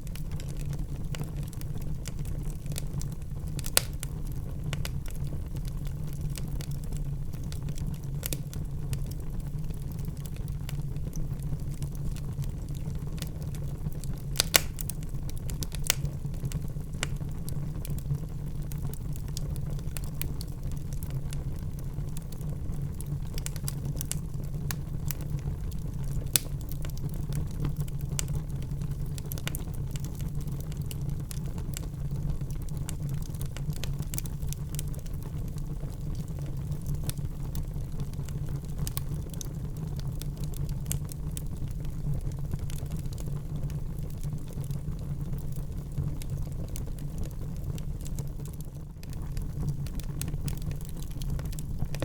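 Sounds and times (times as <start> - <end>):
low rumble of flames: 0.0 - 52.0
wood crackling and popping: 0.0 - 52.0.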